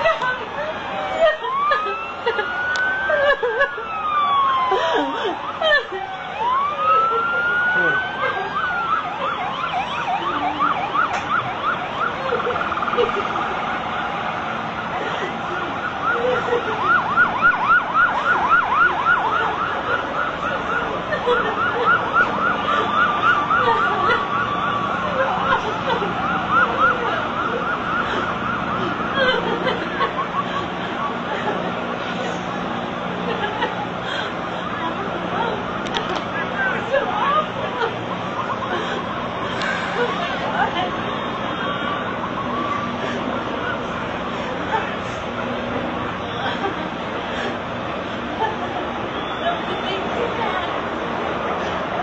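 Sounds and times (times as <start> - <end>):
emergency vehicle sirens: 0.0 - 52.0.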